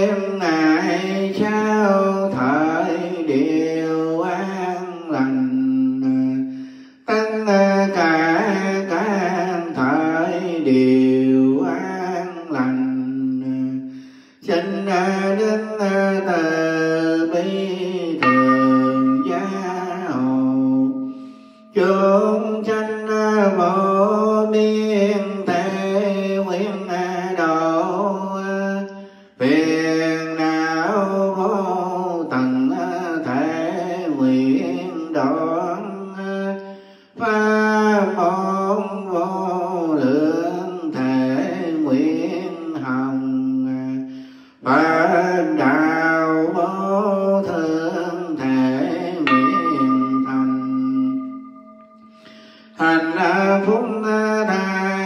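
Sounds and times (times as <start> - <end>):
man chanting a prayer: 0.0 - 6.5, 7.1 - 36.6, 37.2 - 50.8.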